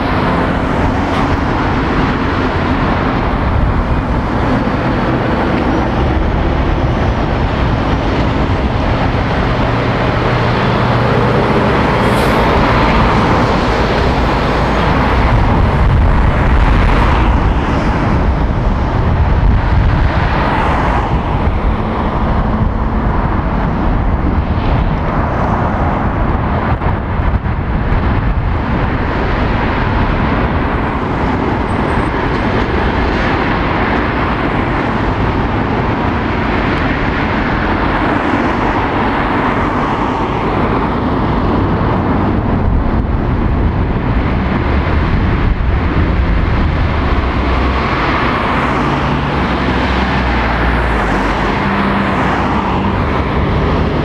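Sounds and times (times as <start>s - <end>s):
lorry diesel engine passing: 0.0s - 54.0s
passing cars and lorries: 0.0s - 54.0s.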